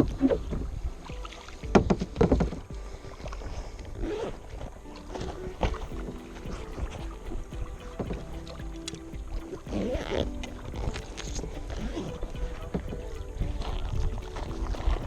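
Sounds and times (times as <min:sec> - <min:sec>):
low microphone rumble: 0:00.0 - 0:15.0.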